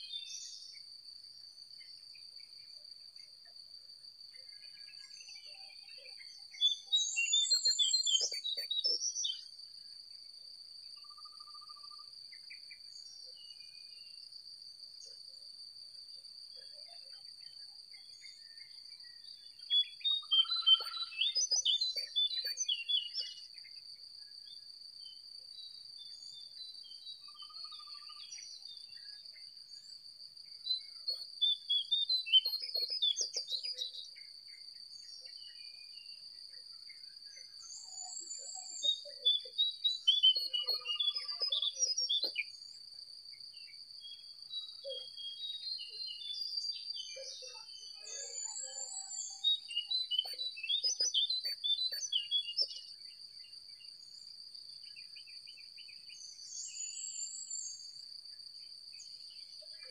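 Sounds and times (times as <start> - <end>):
shrill insect call: 0.0 - 59.9
songbird chirping: 0.0 - 59.9.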